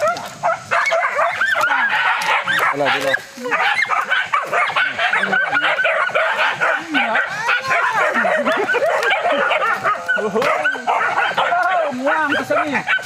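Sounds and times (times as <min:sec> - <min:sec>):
many dogs barking and yelping: 0:00.0 - 0:13.0.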